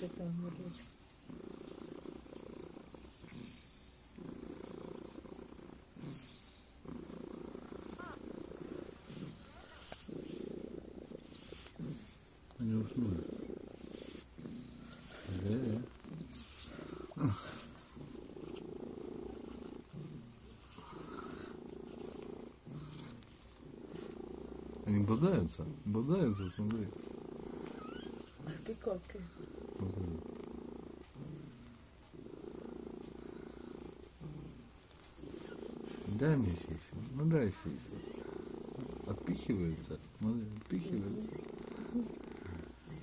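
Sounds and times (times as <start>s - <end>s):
cat purring: 0.0s - 43.0s.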